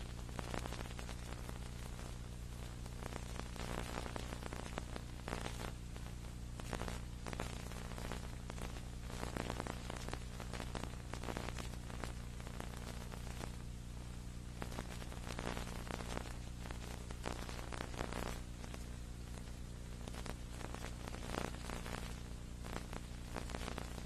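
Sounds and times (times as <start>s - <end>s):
crackling static and hiss: 0.0s - 24.0s
electrical hum: 0.0s - 24.0s.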